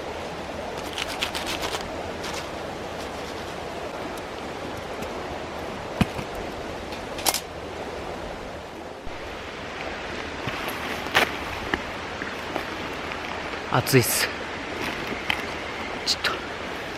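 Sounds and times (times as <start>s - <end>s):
mountain stream rushing: 0.0s - 16.9s.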